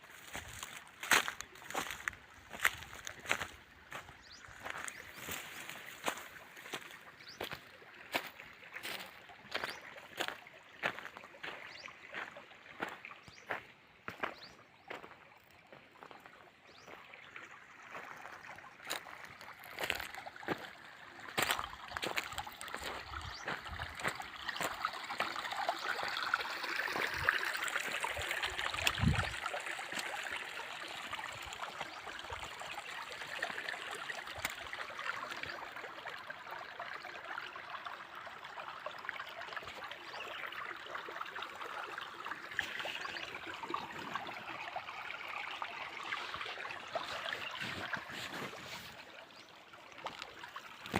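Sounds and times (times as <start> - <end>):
water running and trickling: 0.0 - 50.9.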